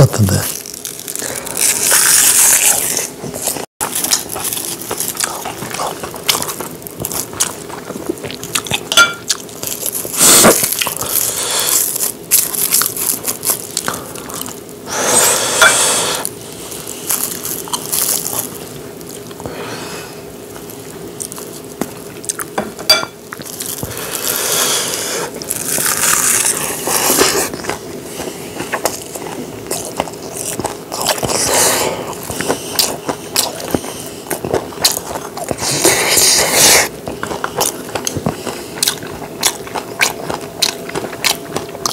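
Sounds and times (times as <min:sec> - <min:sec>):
roasted seaweed crunching: 0:00.0 - 0:19.6, 0:20.5 - 0:22.5, 0:23.3 - 0:35.9
wet chewing: 0:00.4 - 0:14.7, 0:15.7 - 0:19.5, 0:20.5 - 0:41.9.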